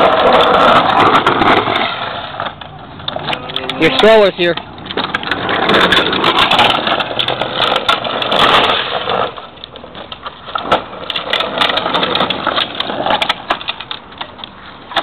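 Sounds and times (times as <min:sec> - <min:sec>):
plastic wheels rolling on asphalt: 0:00.0 - 0:15.0.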